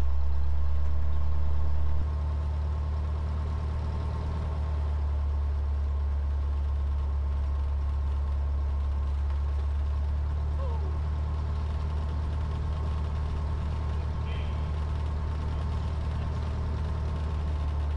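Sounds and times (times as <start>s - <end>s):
propeller plane engine drone: 0.0s - 17.9s.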